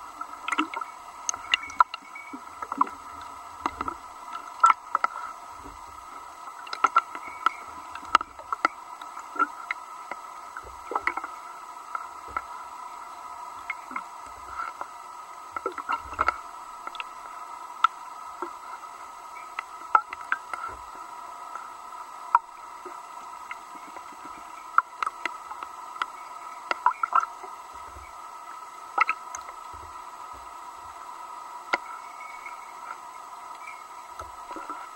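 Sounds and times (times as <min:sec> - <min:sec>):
steady underwater hum: 0:00.0 - 0:34.9.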